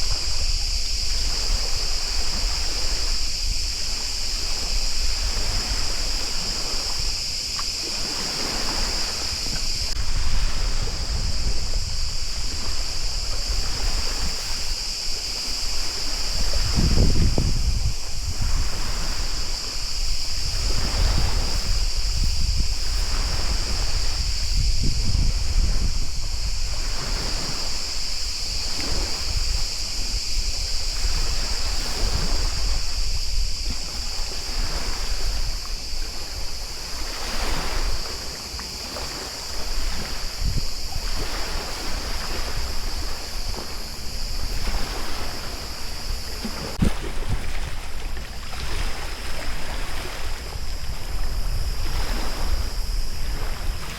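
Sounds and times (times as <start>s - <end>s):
water splashing against paddleboard: 0.0s - 53.9s
wind rumbling on microphone: 0.0s - 53.9s.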